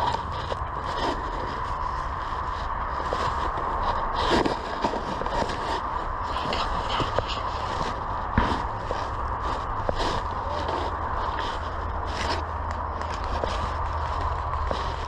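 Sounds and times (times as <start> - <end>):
rustling and scraping of brush: 0.0 - 15.0.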